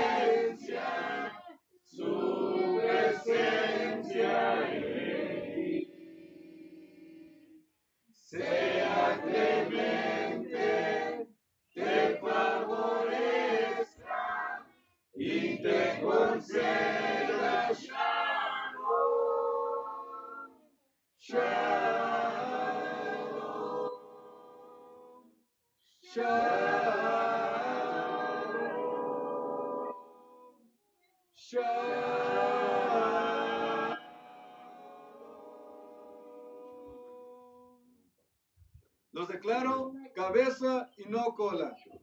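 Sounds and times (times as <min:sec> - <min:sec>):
group singing without instruments: 0:00.0 - 0:20.6, 0:21.2 - 0:30.6, 0:31.4 - 0:37.8.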